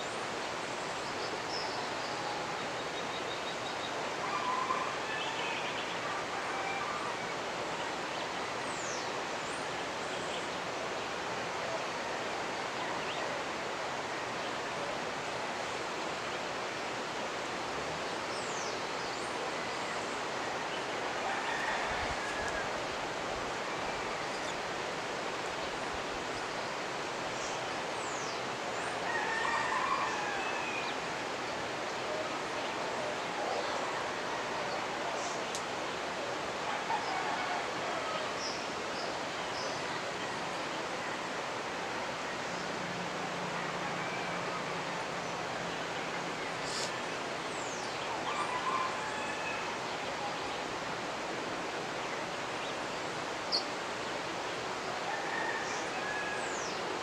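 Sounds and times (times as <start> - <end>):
mountain river rushing: 0.0 - 57.0.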